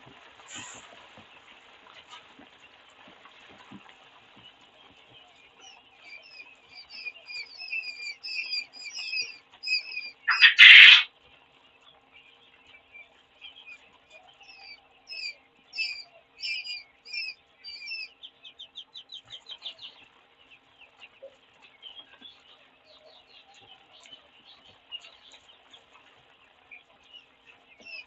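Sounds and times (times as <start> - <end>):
chicks peeping: 0.0 - 28.0
faint steady hum: 0.0 - 28.0.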